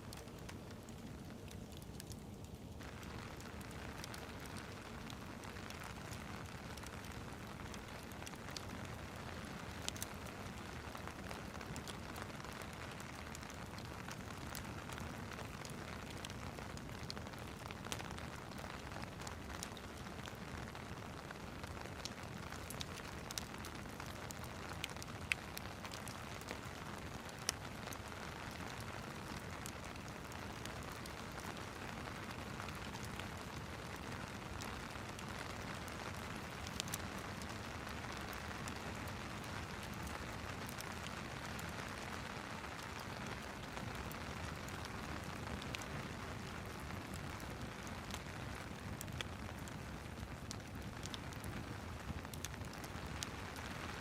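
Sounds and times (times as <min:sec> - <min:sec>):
steady rain: 0:00.0 - 0:54.0
wood fire crackling and popping: 0:00.0 - 0:54.0.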